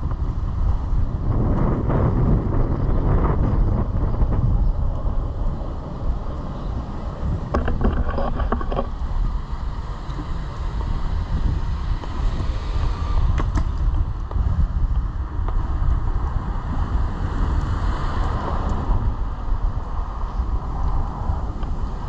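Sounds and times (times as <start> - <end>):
wheels rolling over pavement: 0.0 - 22.0
wind buffeting microphone: 0.0 - 22.0.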